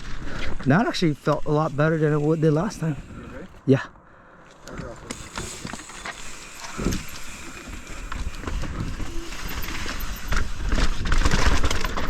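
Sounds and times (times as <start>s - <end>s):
bike tyre noise on dirt: 0.0s - 12.0s.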